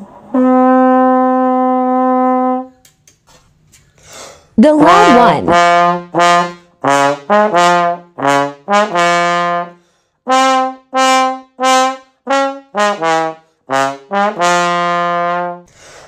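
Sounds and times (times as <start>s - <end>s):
trombone playing loud notes: 0.0s - 2.8s, 4.6s - 15.7s.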